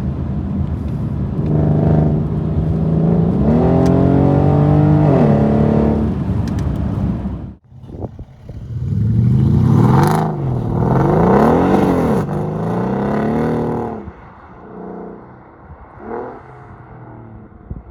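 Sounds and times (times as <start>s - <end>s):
car engine revving: 0.6s - 17.8s.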